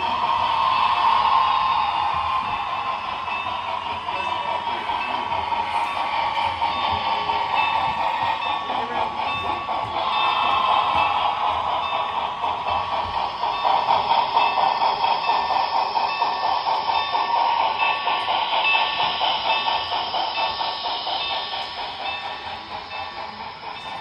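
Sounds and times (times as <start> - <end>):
steam locomotive chuff from speaker: 0.0 - 24.0.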